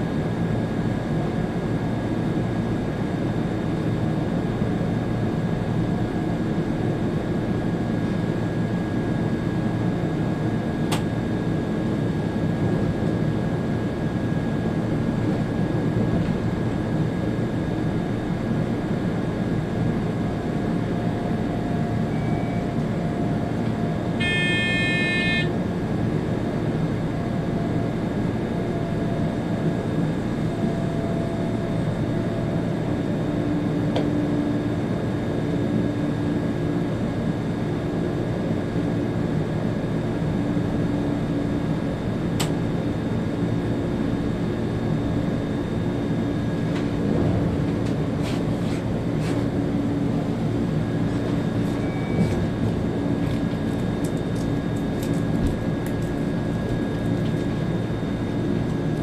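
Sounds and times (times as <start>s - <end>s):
train running with humming rumble: 0.0s - 59.0s.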